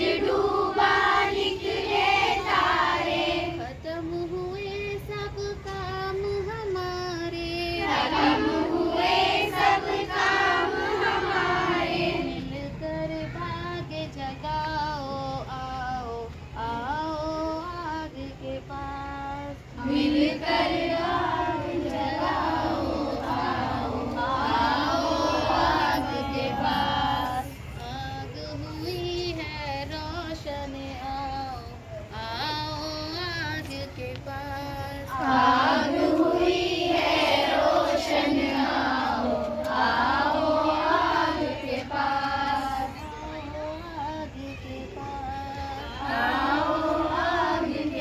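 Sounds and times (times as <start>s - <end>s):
girls singing unaccompanied: 0.0s - 48.0s.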